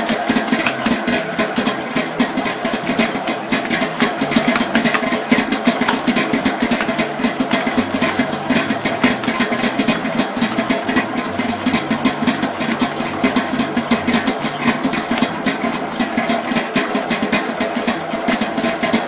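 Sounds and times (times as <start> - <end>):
dough hook knocking in bowl: 0.0 - 19.0
stand mixer motor hum: 0.0 - 19.0.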